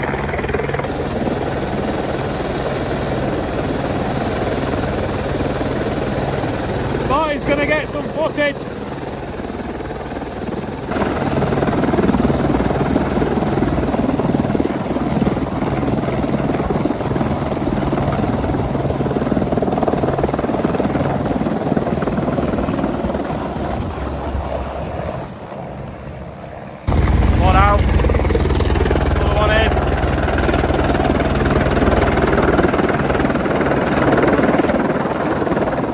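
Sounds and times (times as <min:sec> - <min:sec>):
helicopter rotor and engine drone: 0:00.0 - 0:35.9.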